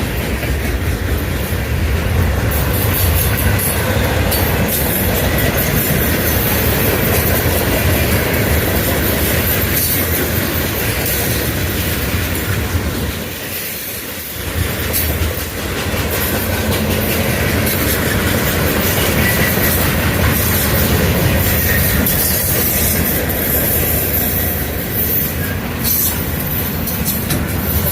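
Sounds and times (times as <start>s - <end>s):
freight train wheels clicking: 0.0s - 27.9s.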